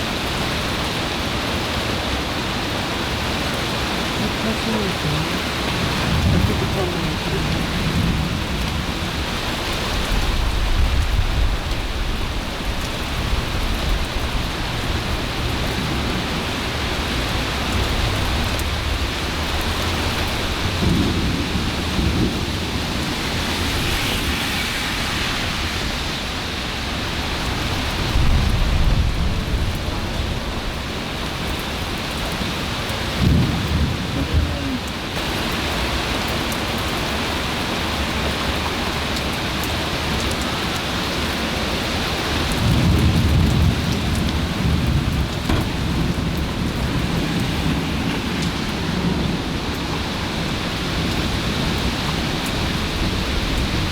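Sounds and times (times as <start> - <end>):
steady rain falling: 0.0 - 53.9
thunder rumbling: 4.0 - 35.4, 42.0 - 53.9.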